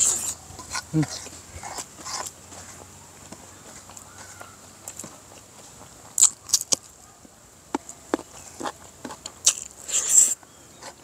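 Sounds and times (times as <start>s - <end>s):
crunchy chewing: 0.0s - 7.1s, 7.8s - 11.0s.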